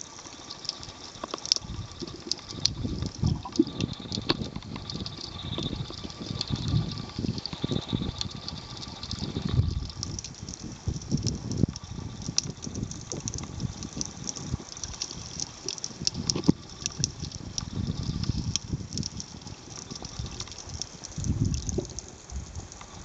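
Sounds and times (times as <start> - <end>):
fine crackling clicks: 0.0 - 23.0
underwater water surges: 0.0 - 23.0.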